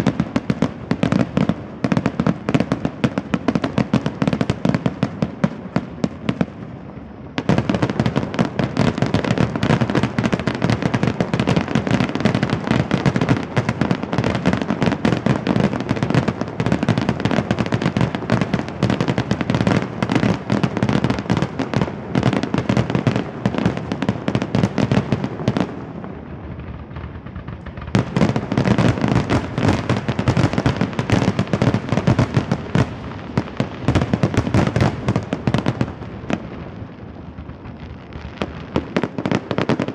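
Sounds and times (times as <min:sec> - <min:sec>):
fireworks bursting rapidly: 0:00.0 - 0:39.9.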